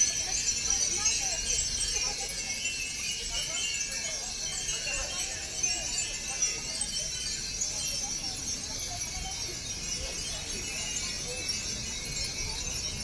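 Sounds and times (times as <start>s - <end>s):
wind chimes tinkling: 0.0s - 13.0s.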